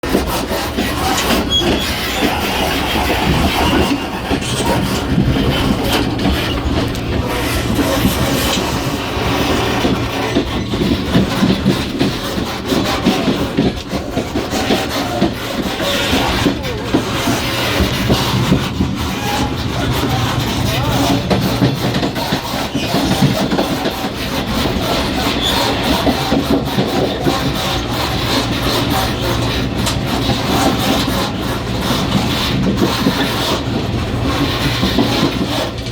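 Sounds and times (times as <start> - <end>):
train running rumble: 0.0 - 35.9.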